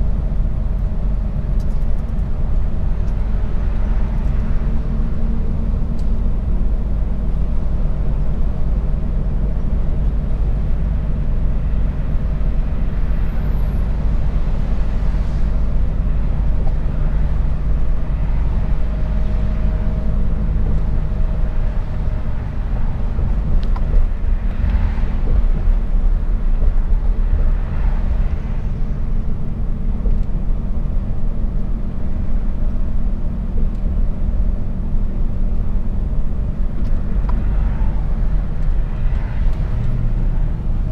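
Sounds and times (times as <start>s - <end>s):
truck diesel engine driving: 0.0s - 40.9s.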